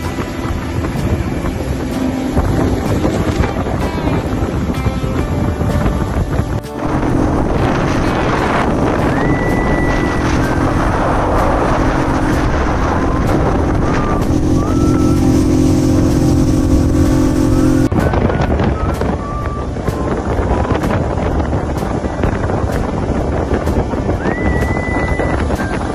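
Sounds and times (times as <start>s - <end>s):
outboard motor running: 0.0s - 25.9s
rushing water: 0.0s - 25.9s
wind buffeting microphone: 0.0s - 25.9s.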